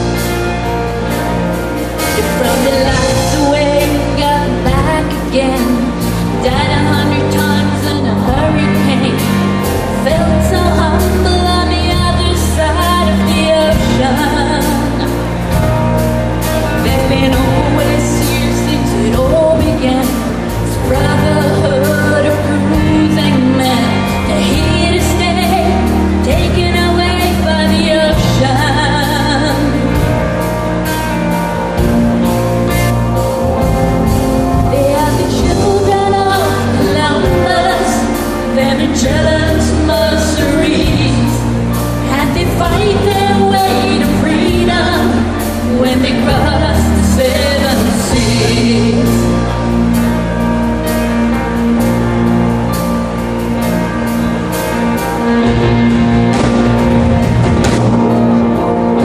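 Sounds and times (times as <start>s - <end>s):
person singing: 0.0s - 31.4s, 33.2s - 50.6s
held chords: 0.0s - 59.0s
pop band playing: 0.0s - 59.0s.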